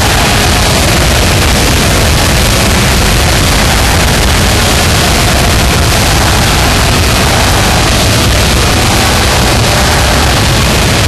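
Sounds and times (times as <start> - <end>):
distorted goal horn blaring: 0.0 - 11.0.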